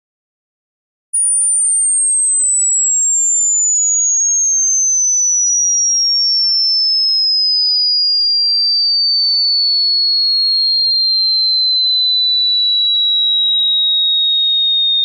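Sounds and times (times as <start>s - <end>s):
high-pitched sine tone gliding down: 1.2s - 15.0s.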